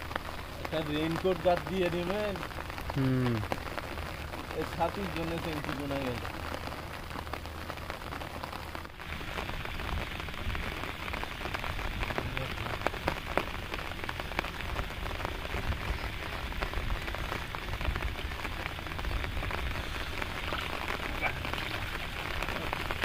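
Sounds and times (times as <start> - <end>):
rain falling on water: 0.0 - 23.0.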